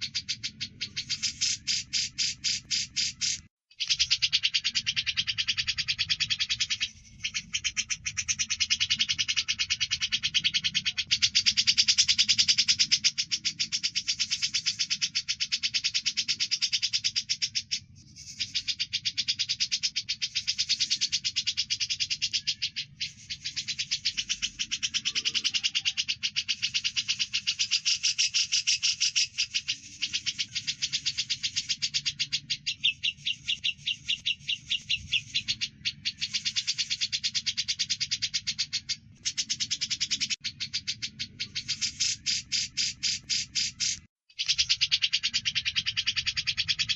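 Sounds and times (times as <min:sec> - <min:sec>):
birds chirping: 0:00.0 - 0:46.9.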